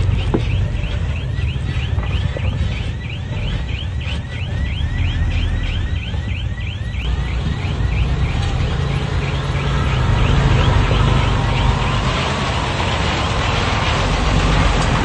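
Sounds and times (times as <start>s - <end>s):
bulldozer diesel engine rumbling: 0.0s - 15.0s.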